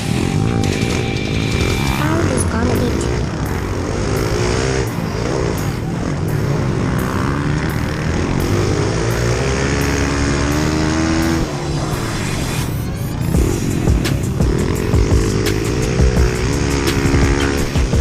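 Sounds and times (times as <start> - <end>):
pit bike engines revving: 0.0 - 18.0.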